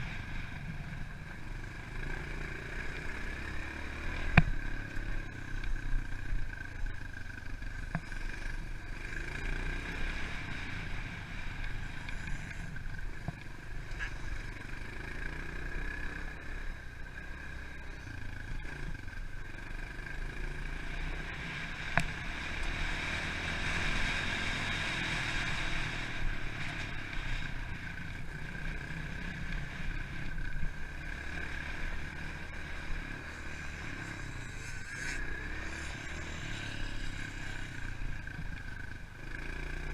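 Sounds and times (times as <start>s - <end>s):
rumble from rough ground: 0.0s - 39.9s
motorbike engine revving: 1.6s - 39.9s.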